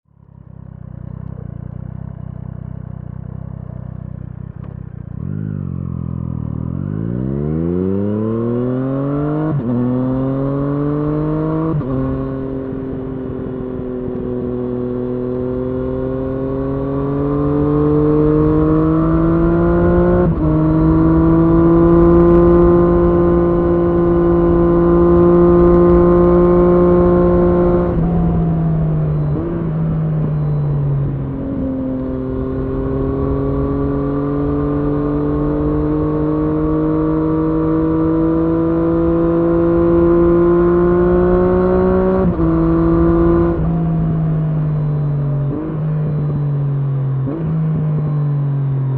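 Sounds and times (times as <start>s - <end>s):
motorcycle engine revving: 0.2s - 48.9s.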